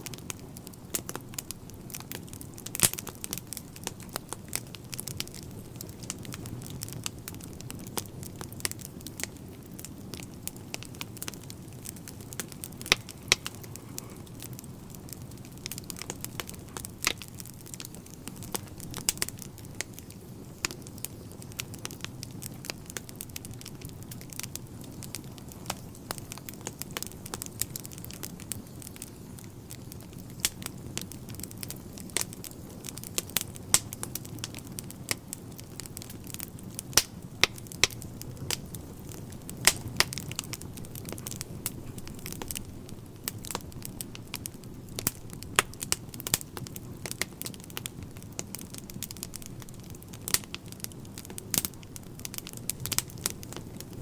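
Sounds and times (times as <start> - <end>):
burning logs crackling and popping: 0.0 - 54.0
low rumble of flames: 0.0 - 54.0.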